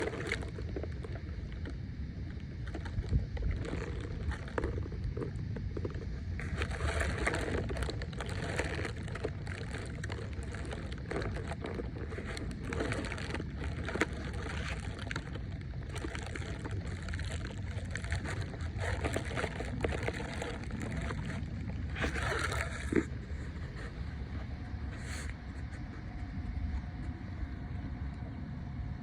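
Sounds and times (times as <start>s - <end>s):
wind rumbling on microphone: 0.0s - 29.0s
water lapping: 2.6s - 26.1s.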